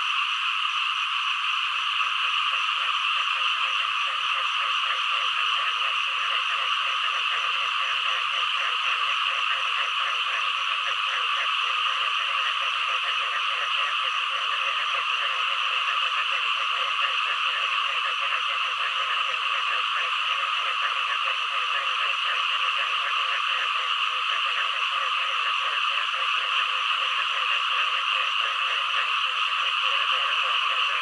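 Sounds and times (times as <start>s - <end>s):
frogs croaking chorus: 0.0s - 31.0s.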